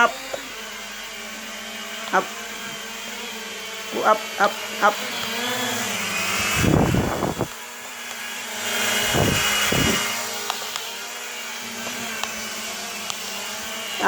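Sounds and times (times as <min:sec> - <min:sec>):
quadcopter propellers buzzing: 0:00.0 - 0:14.0.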